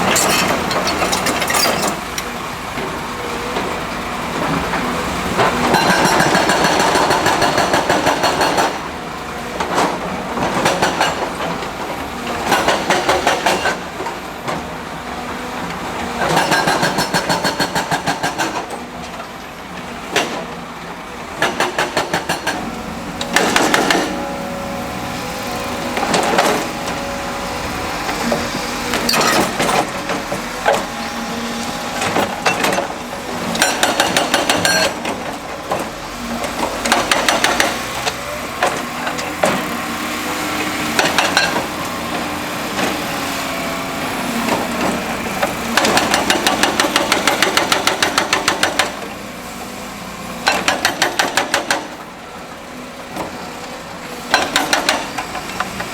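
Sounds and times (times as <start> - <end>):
diesel machine running: 0.0 - 55.9
hydraulic hammer pounding rock: 4.4 - 19.2, 21.3 - 49.2, 50.4 - 52.1, 54.3 - 55.9.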